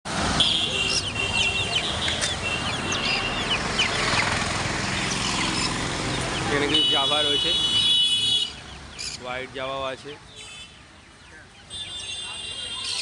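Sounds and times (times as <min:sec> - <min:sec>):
sparrows chirping: 0:00.5 - 0:13.0.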